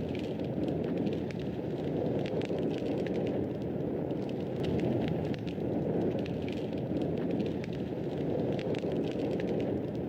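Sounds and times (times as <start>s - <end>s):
low rumble of flames: 0.0s - 10.0s.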